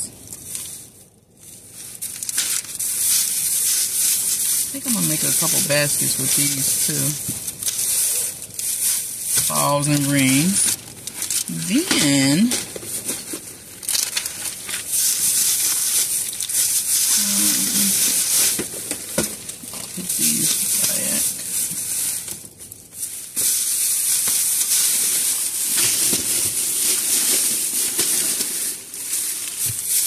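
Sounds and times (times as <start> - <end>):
plastic bag rustling: 0.0 - 30.0.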